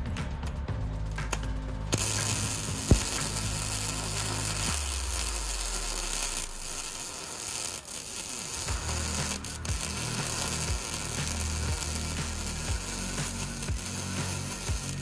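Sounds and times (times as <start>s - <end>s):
sharp welding pop: 2.0s - 15.0s
welding arc sizzling hiss: 2.0s - 15.0s.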